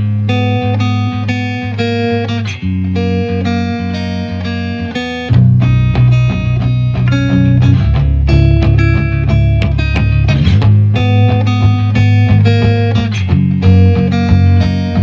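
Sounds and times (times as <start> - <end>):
bass line: 0.0 - 15.0
plucked guitar chords: 0.0 - 15.0.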